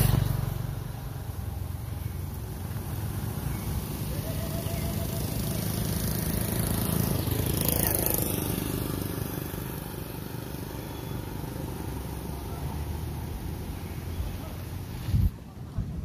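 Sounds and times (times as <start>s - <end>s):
vehicle engine passing: 0.0s - 15.3s.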